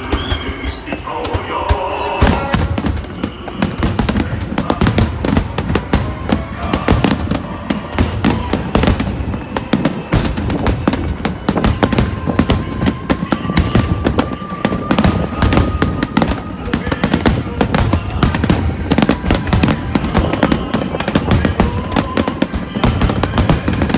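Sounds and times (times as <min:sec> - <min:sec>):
continuous fireworks rumble: 0:00.0 - 0:23.9
fireworks bangs: 0:00.0 - 0:23.9.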